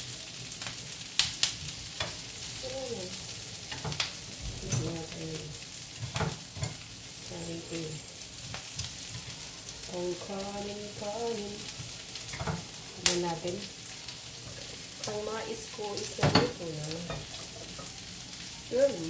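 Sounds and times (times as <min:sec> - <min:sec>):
meat and onion sizzling in oil: 0:00.0 - 0:19.0.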